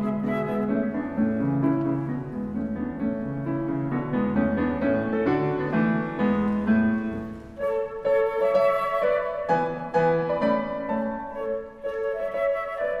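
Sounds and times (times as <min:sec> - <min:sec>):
grand piano runs and chords: 0:00.0 - 0:11.8.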